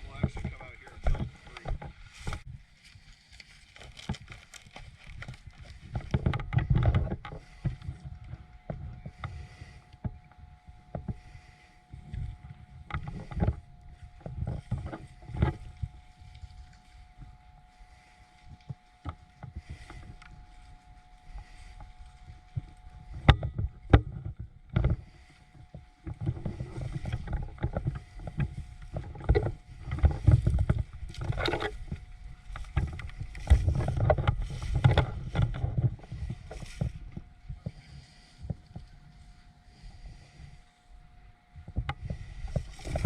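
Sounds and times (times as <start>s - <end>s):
rustling and thumping handling: 0.0s - 39.4s.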